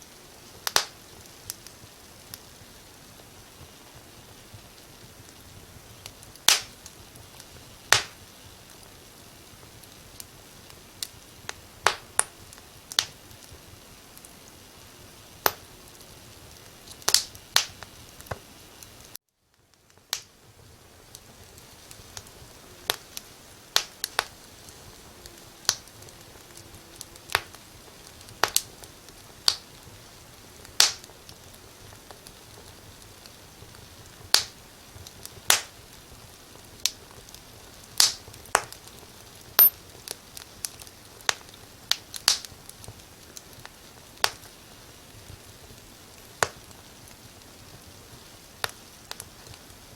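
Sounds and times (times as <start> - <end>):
firewood crackling in fireplace: 0.0 - 49.9.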